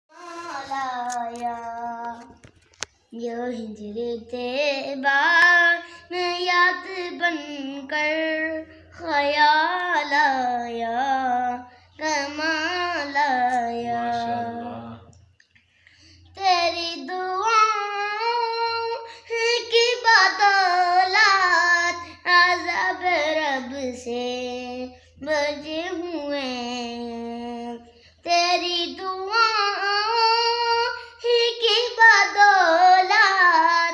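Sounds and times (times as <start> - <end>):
boy singing unaccompanied: 0.1 - 2.5, 3.1 - 15.1, 16.2 - 33.9.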